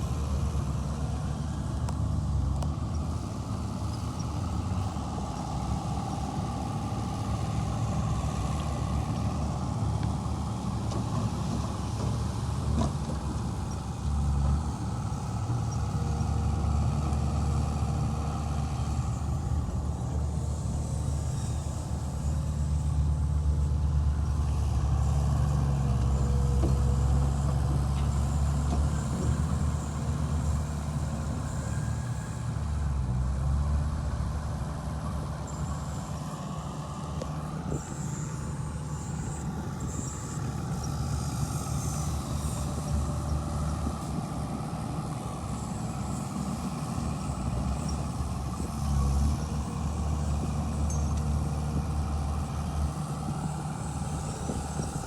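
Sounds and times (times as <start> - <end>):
diesel engine rumble: 0.0 - 55.0.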